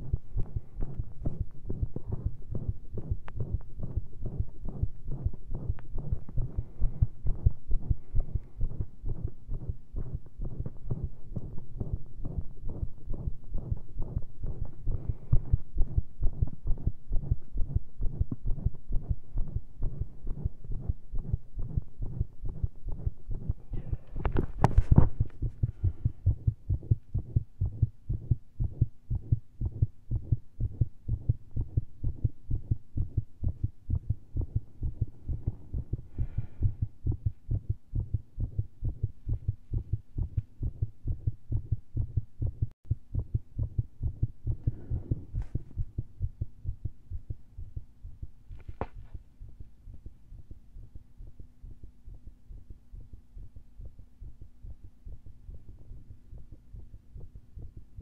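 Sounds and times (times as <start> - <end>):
irregular heartbeat through stethoscope: 0.0 - 58.0.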